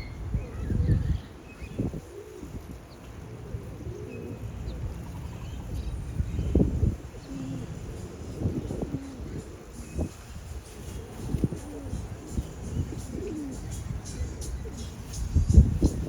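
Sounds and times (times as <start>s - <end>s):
pigeons cooing: 0.0s - 16.0s
small birds chirping: 0.0s - 16.0s.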